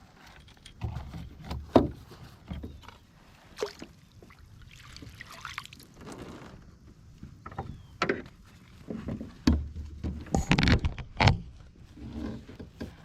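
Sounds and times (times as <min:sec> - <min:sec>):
knocks and bumps in a canoe: 0:00.1 - 0:13.0.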